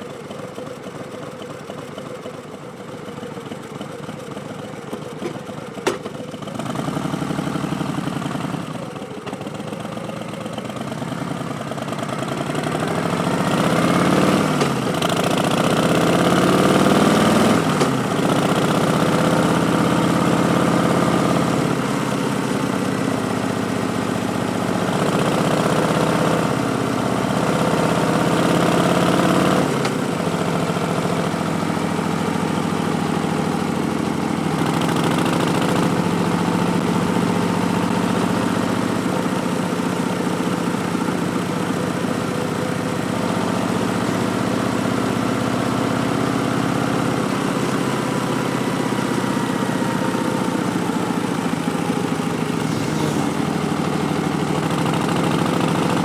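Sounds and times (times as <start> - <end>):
motorcycle exhaust revving: 10.6 - 56.0.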